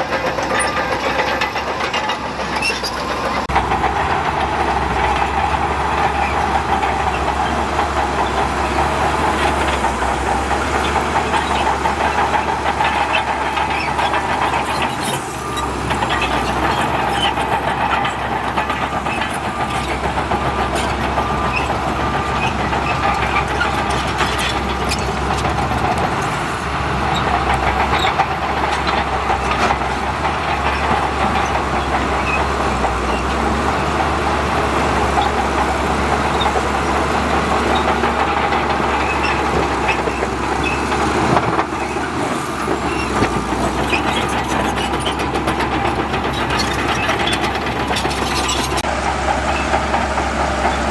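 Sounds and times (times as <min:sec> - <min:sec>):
diesel engine drone: 0:00.0 - 0:50.9.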